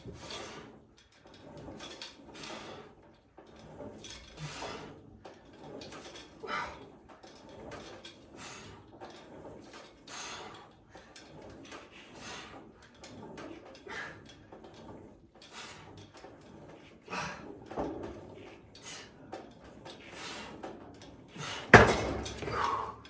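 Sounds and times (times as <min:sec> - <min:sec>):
gym equipment sliding and clinking: 0:00.0 - 0:23.0.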